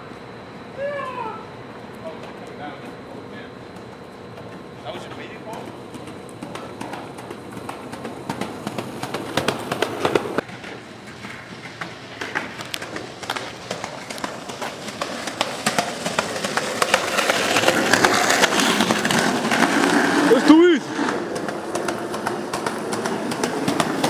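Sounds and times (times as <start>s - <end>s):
skateboard wheels rolling: 0.8s - 24.0s
skateboard wheels clacking: 2.1s - 24.0s.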